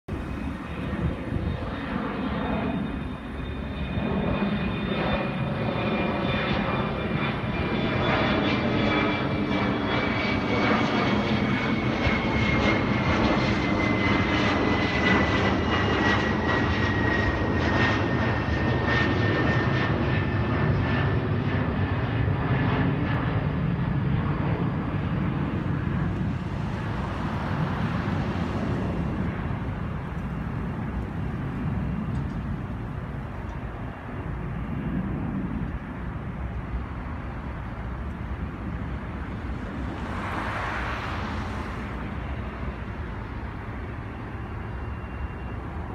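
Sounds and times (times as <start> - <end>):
jet airliner engine rumble and whine: 0.1 - 45.9.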